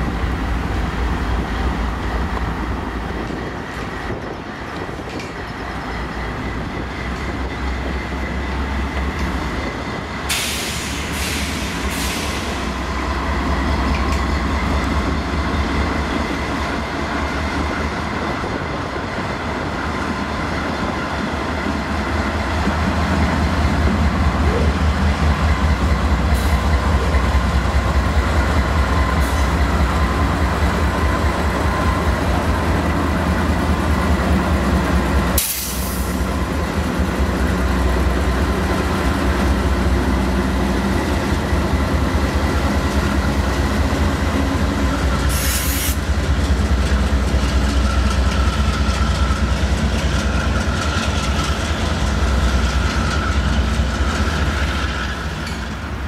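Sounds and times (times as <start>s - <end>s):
diesel locomotive engines droning: 0.0s - 56.0s
train wheels clacking on rails: 0.0s - 56.0s.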